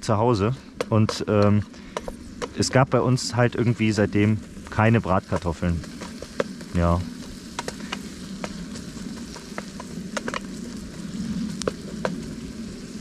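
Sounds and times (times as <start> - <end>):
crackles and pops: 0.0 - 13.0
onions sizzling in oil: 0.3 - 13.0.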